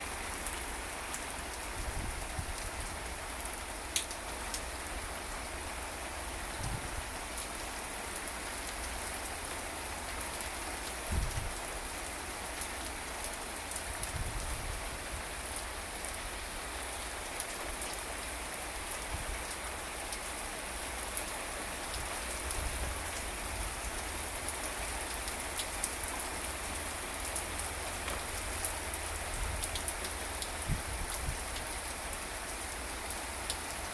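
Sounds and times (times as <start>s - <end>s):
rain spattering on surfaces: 0.0s - 33.9s.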